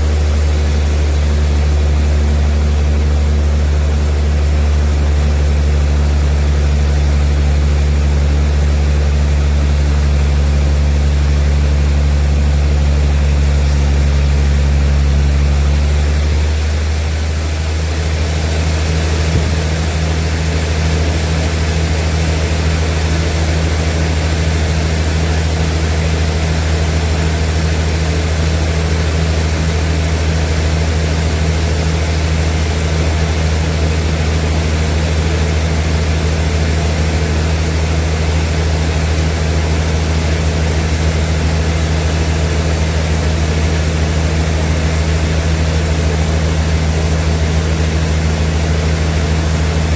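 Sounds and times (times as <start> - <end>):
sawmill machinery humming: 0.0 - 49.9.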